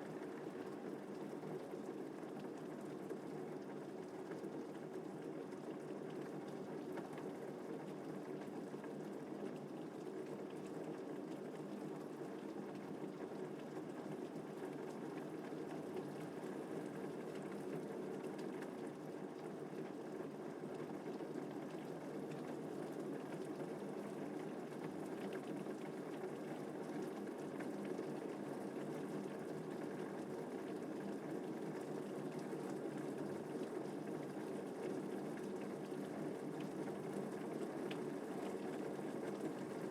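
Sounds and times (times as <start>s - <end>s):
steady rain falling: 0.1s - 39.9s.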